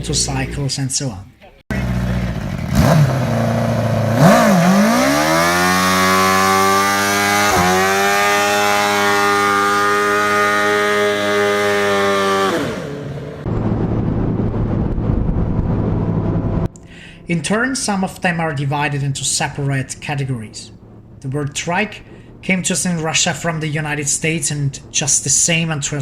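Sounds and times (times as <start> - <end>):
rough engine running: 1.7 - 26.0
trike engine revving: 1.7 - 26.0.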